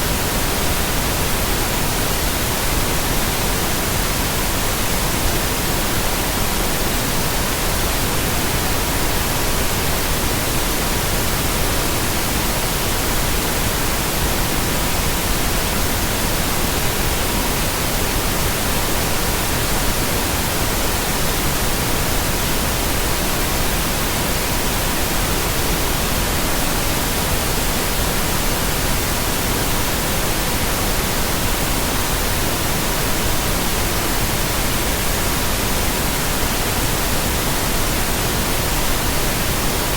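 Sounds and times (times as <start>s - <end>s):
pink noise: 0.0s - 39.9s.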